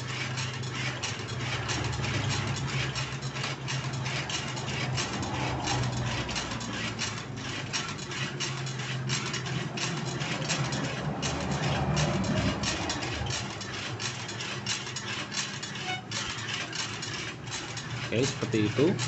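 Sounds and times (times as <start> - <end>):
metal clicking and rattling: 0.0 - 19.0.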